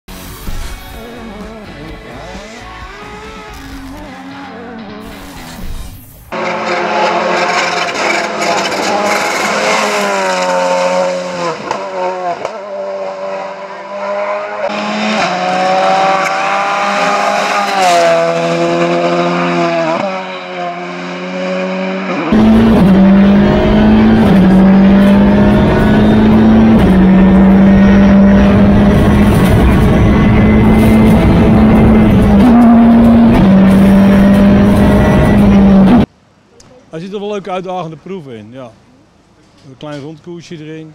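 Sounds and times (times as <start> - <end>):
rally car engine at full throttle: 0.1 - 36.1
road rumble: 0.1 - 40.9.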